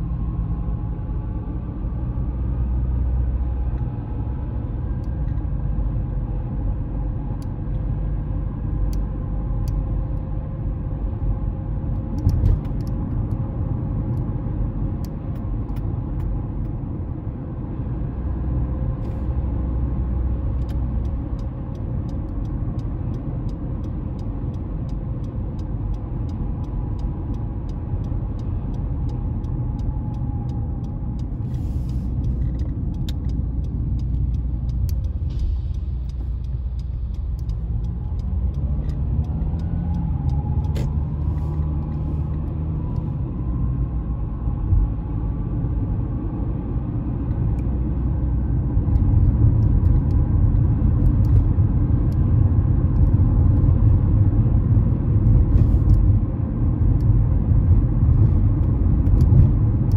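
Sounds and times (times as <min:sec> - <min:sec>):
road and engine rumble in car: 0:00.0 - 0:59.9.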